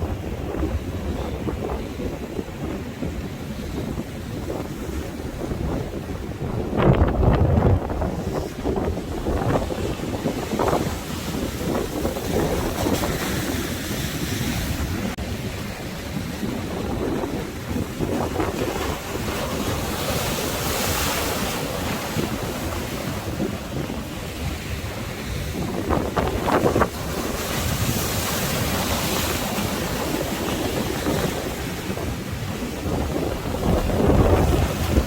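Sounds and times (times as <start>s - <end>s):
sea waves washing in: 0.0s - 35.0s
wind buffeting microphone: 0.0s - 35.0s.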